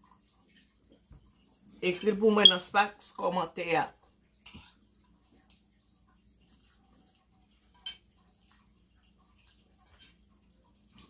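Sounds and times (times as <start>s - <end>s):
soft eating sounds: 0.0s - 11.0s.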